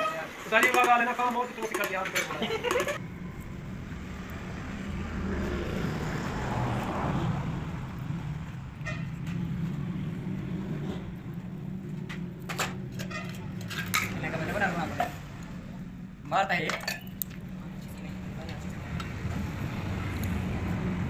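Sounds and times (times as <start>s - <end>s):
low engine rumble: 2.4s - 21.0s.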